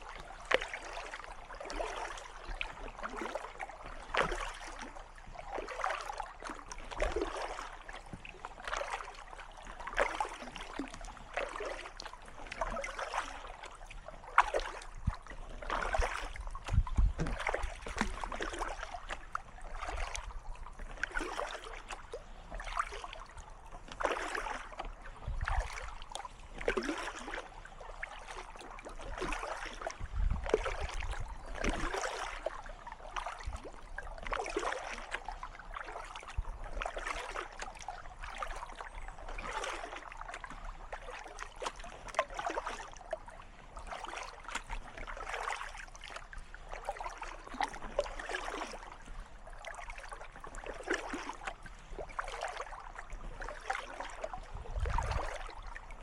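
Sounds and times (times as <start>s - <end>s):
paddle strokes splashing in water: 0.0s - 56.0s.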